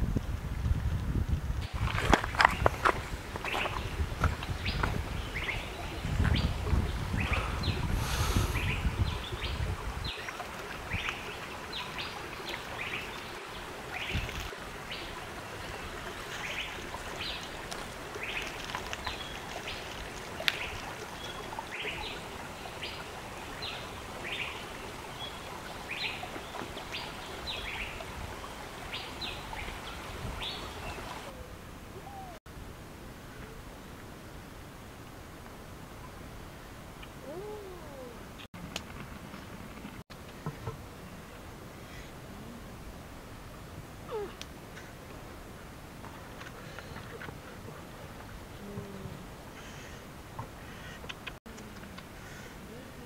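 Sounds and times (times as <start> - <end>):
outdoor background hiss: 0.0 - 53.0.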